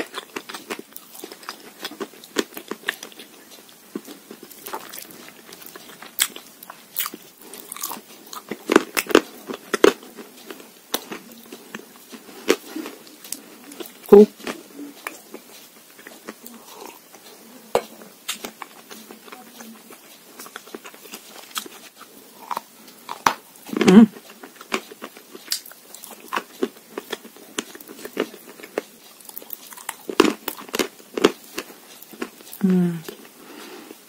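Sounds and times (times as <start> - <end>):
crunching and chewing: 0.0 - 34.0.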